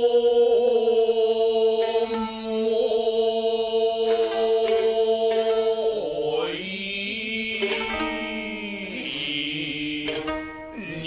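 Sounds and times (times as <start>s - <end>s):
shamisen plucks: 1.7s - 11.0s.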